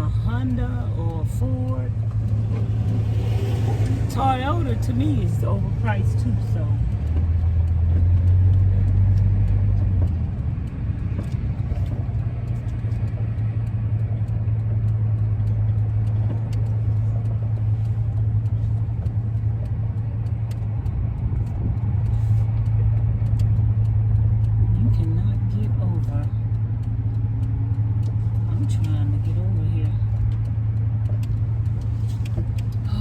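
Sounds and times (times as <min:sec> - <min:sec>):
van road and engine rumble: 0:00.0 - 0:33.0.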